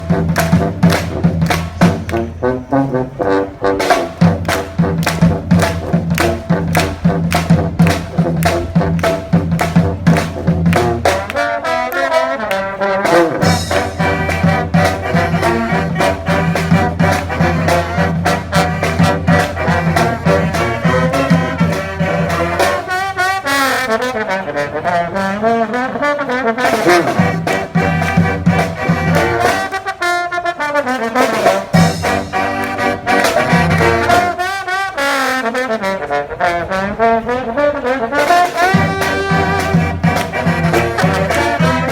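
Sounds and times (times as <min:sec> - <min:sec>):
brass band playing: 0:00.0 - 0:41.9.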